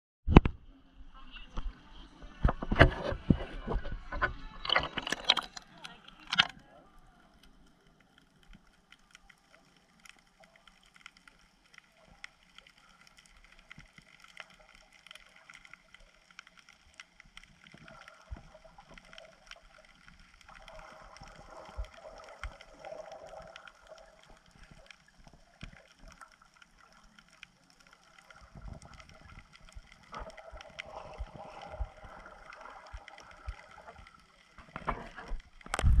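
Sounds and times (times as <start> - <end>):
underwater clicks and crackles: 0.3 - 0.7, 1.3 - 36.0
muffled underwater noise: 0.4 - 36.0.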